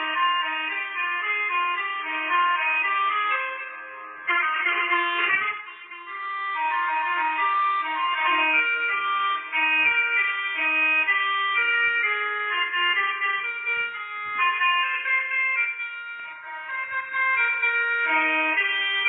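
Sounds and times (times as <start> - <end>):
melodica playing held notes: 0.0 - 19.0.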